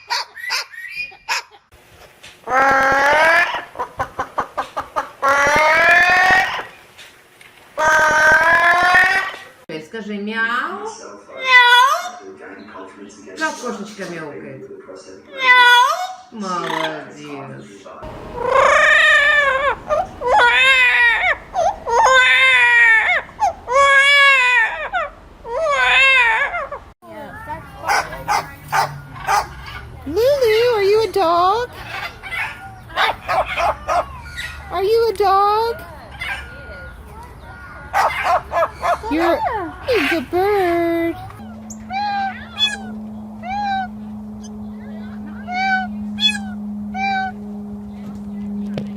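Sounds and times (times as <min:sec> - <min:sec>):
parrot squawking and calling: 0:00.0 - 0:01.7, 0:02.4 - 0:06.8, 0:07.8 - 0:09.6, 0:11.4 - 0:12.3, 0:15.3 - 0:17.3, 0:18.0 - 0:47.7.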